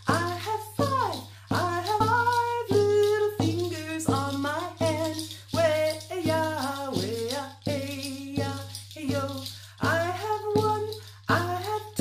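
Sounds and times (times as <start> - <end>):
hand drum beat: 0.0 - 12.0
woman singing: 0.0 - 12.0.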